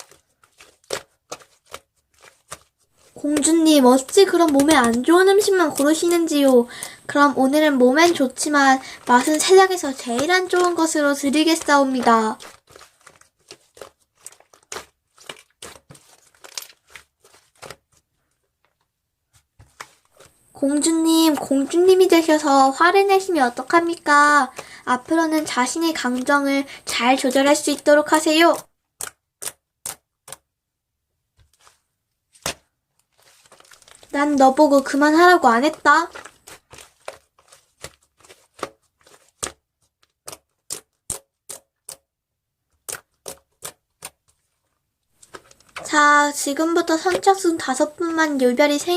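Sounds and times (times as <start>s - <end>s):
slime crackling and squelching: 0.0s - 18.6s, 19.3s - 30.5s, 31.4s - 42.1s, 42.7s - 48.9s.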